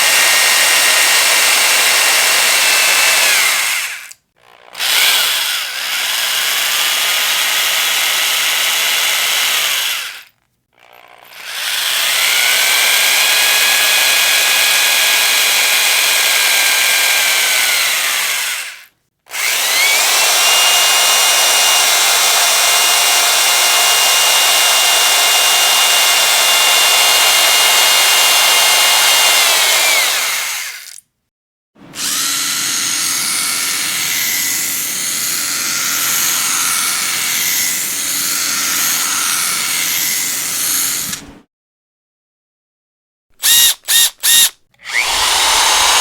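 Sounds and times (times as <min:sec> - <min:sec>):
electric power drill whining: 0:00.0 - 0:31.0, 0:31.8 - 0:41.4, 0:43.4 - 0:46.0.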